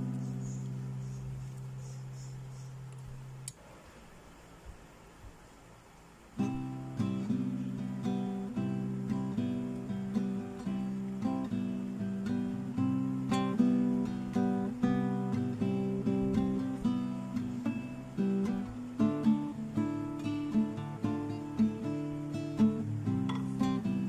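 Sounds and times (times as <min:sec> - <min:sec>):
acoustic guitar plucked notes: 0:00.0 - 0:03.5, 0:06.4 - 0:24.0.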